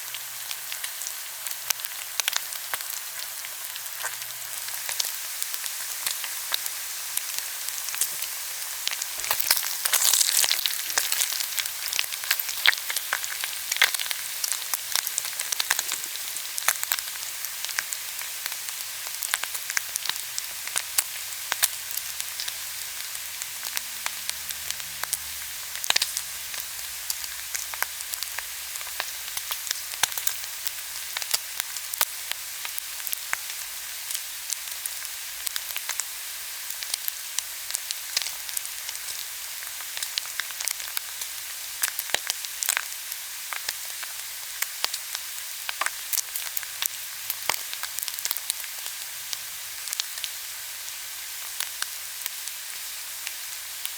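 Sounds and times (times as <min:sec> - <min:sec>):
meat sizzling and popping: 0:00.0 - 0:53.9.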